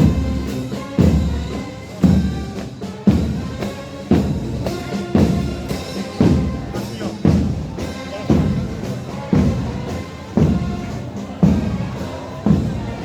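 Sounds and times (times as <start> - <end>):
bass drum beats: 0.0 - 13.0
marching band playing: 0.0 - 13.0.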